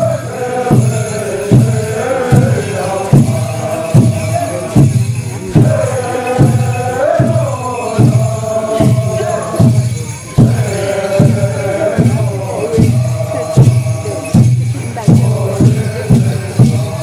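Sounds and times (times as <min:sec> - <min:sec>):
steady drum beat: 0:00.0 - 0:17.0
voices chanting together: 0:00.0 - 0:17.0.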